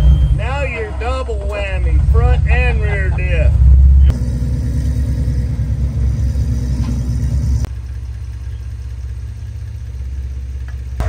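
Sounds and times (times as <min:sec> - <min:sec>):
pickup engine running at low revs: 0:00.0 - 0:11.0.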